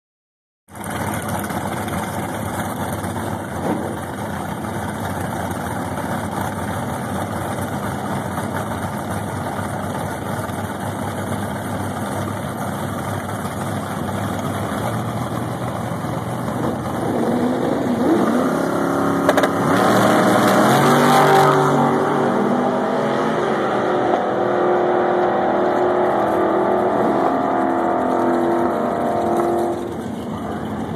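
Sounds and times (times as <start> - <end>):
drag car engine idling and revving: 0.7 - 30.9.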